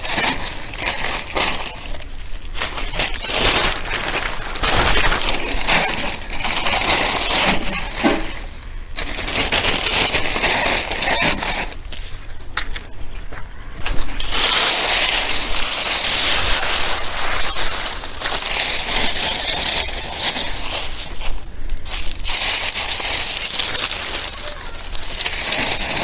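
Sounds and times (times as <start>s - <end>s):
dry palm leaves crackling: 0.0s - 11.8s, 13.7s - 26.0s.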